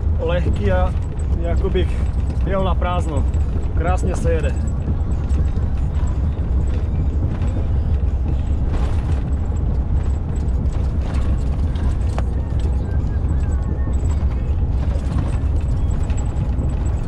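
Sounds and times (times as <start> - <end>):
truck engine and road rumble: 0.0 - 17.0
tyres knocking and rattling: 0.0 - 17.0.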